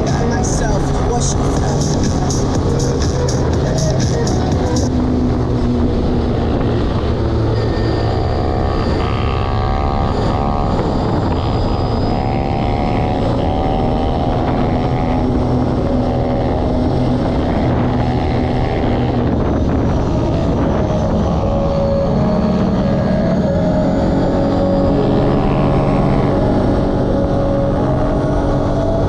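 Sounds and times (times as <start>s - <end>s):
pit bike engine revving: 0.0s - 29.0s.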